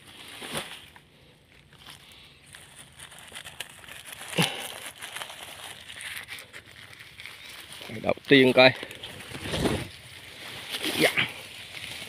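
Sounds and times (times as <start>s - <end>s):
plastic bag crinkling: 0.0s - 12.0s
rustling through leafy brush: 0.0s - 12.0s.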